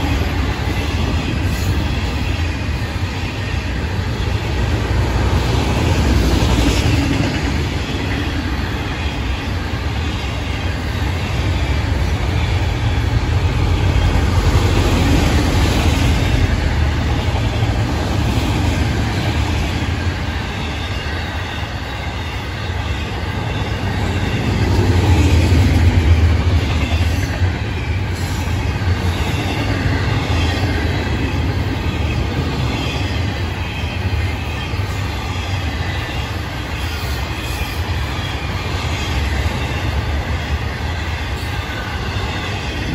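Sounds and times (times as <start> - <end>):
rumble of train wheels: 0.0 - 42.9.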